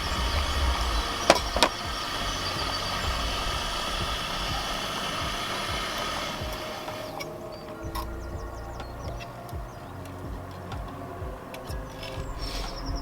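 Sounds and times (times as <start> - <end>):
camping stove burner running: 0.0 - 13.0.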